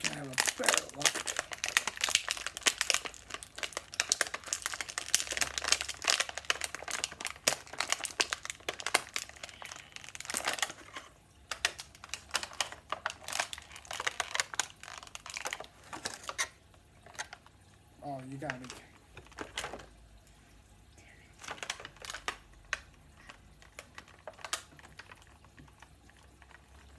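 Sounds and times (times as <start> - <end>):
toy packaging crinkling: 0.0 - 17.5, 18.3 - 19.9, 21.4 - 26.9.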